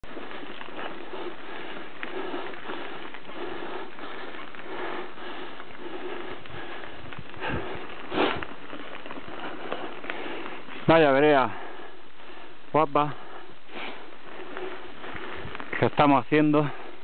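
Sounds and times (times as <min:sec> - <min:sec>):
footsteps on dirt trail: 0:00.0 - 0:17.0
person breathing hard: 0:00.0 - 0:17.0.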